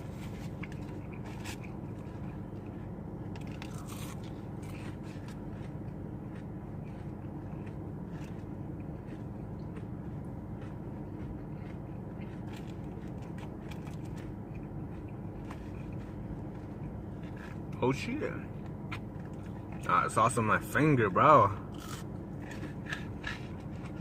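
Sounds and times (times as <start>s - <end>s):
chewing and handling food: 0.0s - 24.0s
steady low hum: 0.0s - 24.0s.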